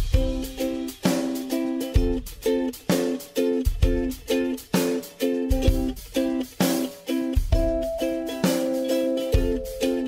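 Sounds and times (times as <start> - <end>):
bouncy chord music with beat: 0.0 - 10.0.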